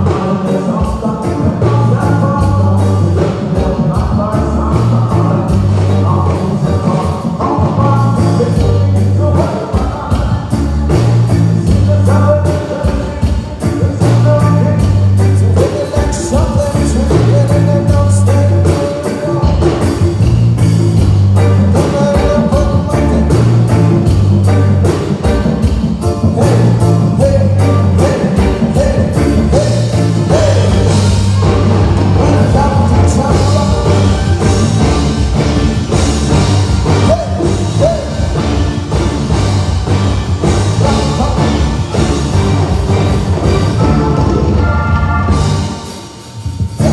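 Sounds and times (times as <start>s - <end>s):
bass line: 0.0s - 46.9s
live rock band playing: 0.0s - 46.9s
person singing: 0.0s - 46.9s
steady drum beat: 0.0s - 46.9s.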